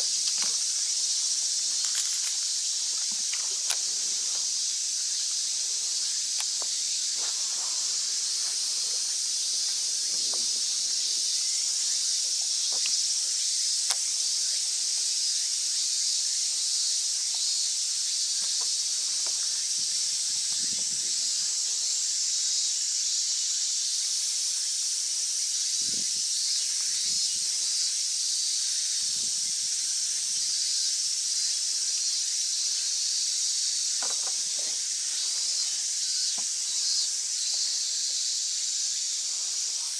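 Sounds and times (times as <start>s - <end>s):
cicada chorus hissing: 0.0s - 39.9s.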